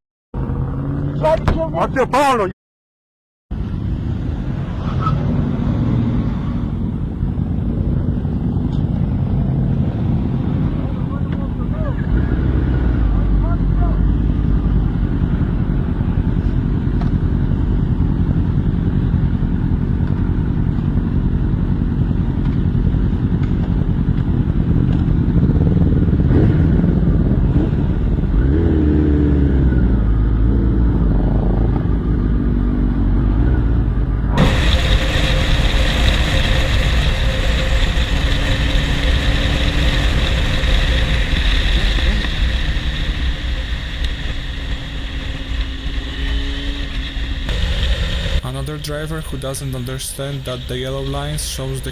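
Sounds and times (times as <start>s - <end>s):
motorcycle riding on road: 0.3s - 2.4s, 3.5s - 51.9s.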